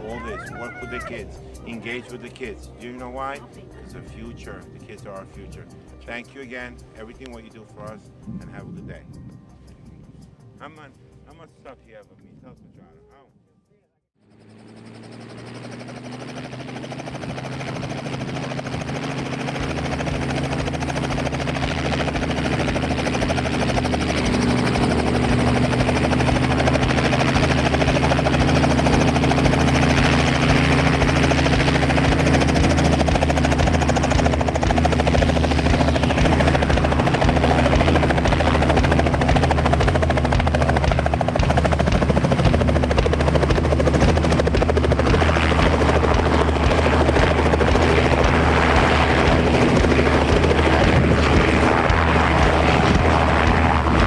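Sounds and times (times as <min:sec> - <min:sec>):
helicopter engine and rotor: 0:00.0 - 0:13.2, 0:14.2 - 0:54.0.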